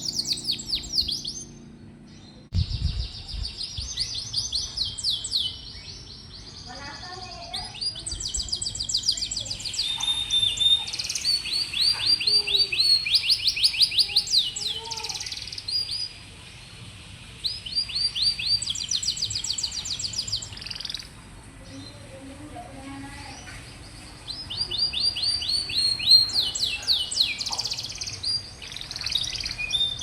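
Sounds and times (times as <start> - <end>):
canary singing trills: 0.0 - 16.2, 17.4 - 30.0.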